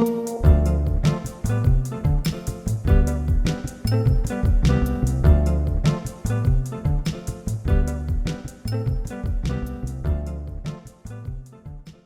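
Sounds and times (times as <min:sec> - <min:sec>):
background music with bass guitar drums: 0:00.0 - 0:12.0.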